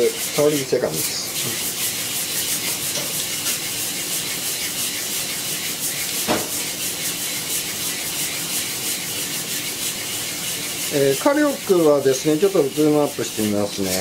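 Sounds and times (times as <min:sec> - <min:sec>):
coffee beans rustling in mesh roaster: 0:00.0 - 0:14.0.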